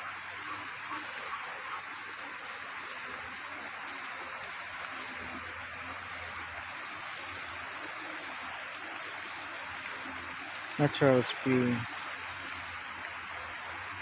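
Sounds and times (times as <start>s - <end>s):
water rushing from spring: 0.0s - 14.0s.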